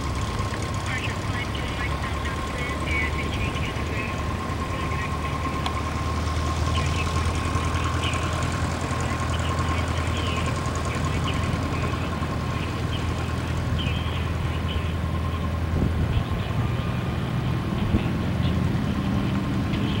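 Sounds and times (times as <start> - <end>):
propeller aircraft engines idling: 0.0 - 20.0.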